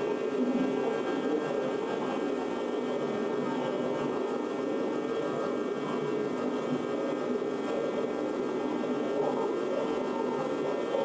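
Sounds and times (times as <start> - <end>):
mechanical hum with faint whine: 0.0 - 11.0.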